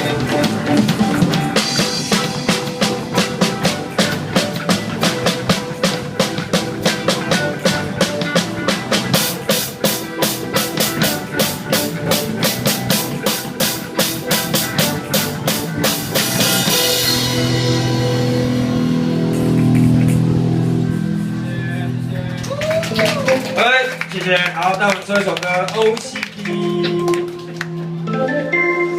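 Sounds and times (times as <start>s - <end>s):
drum kit beat: 0.0s - 28.4s
reggae band playing: 0.0s - 28.9s.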